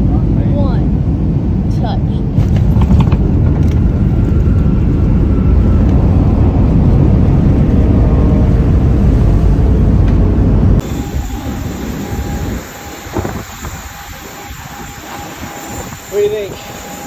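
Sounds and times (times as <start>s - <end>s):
jet engine roar: 0.0s - 17.0s
runway rumble: 0.0s - 17.0s.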